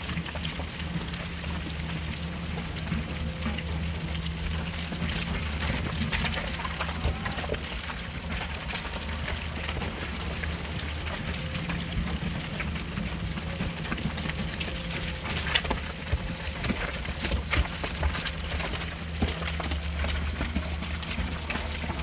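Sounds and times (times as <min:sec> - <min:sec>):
excavator diesel engine running: 0:00.0 - 0:22.0
stones and gravel clattering: 0:00.0 - 0:22.0.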